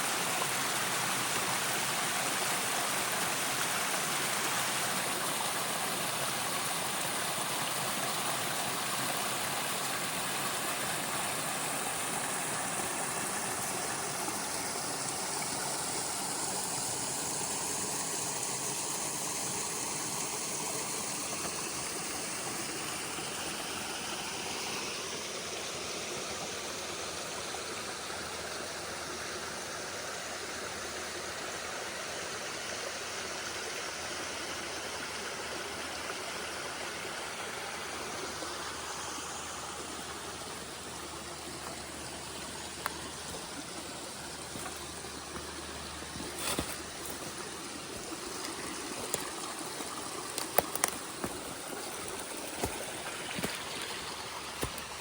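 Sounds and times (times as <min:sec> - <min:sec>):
river water rushing: 0:00.0 - 0:27.4, 0:33.0 - 0:55.0.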